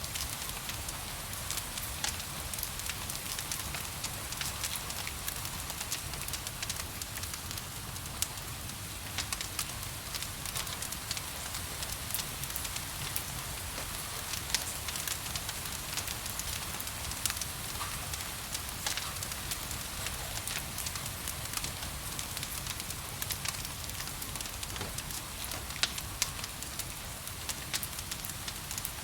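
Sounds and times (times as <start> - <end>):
rain falling: 0.0 - 29.0
wood fire crackling and popping: 0.1 - 29.0.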